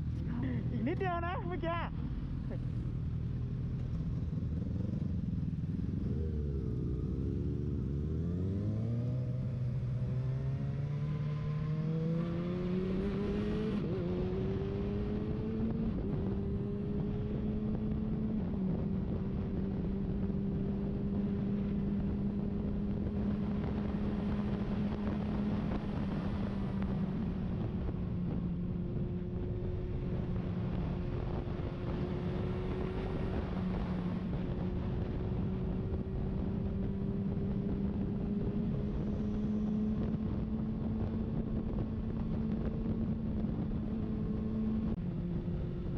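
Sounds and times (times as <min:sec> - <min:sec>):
road and wind noise: 0:00.0 - 0:45.9
motorcycle engine accelerating: 0:02.0 - 0:45.9.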